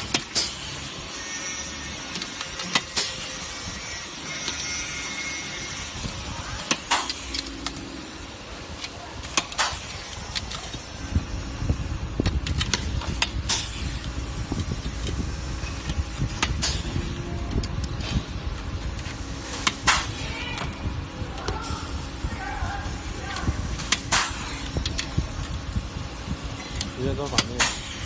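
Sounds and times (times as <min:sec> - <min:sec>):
workshop hum: 0:00.0 - 0:28.0.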